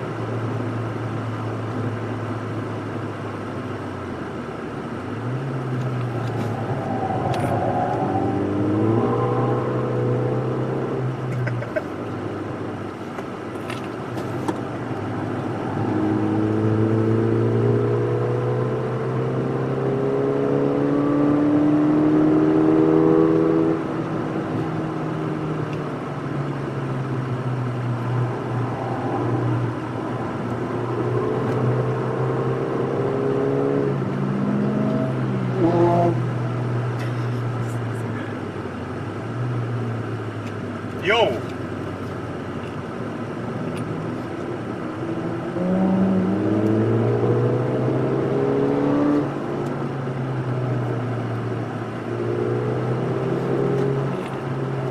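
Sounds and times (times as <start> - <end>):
car engine revving: 4.9 - 12.8, 13.6 - 42.3, 43.2 - 54.9.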